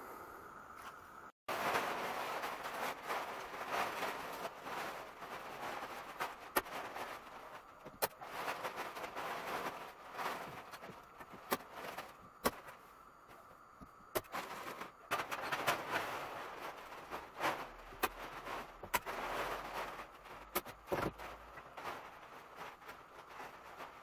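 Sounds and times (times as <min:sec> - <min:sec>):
plastic film rustling and crinkling: 0:01.5 - 0:24.0.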